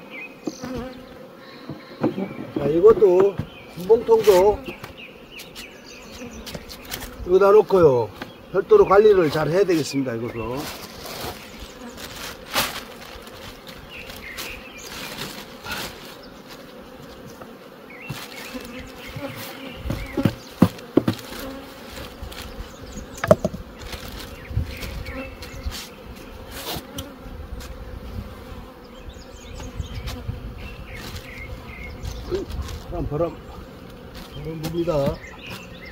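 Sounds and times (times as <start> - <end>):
honeybees buzzing: 0.0 - 35.9
knocks and rustles from hive: 0.4 - 28.7, 29.5 - 35.9.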